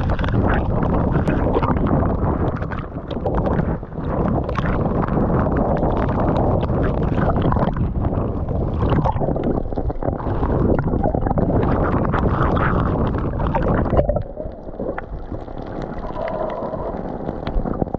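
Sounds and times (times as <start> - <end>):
waves washing over microphone: 0.0 - 17.9.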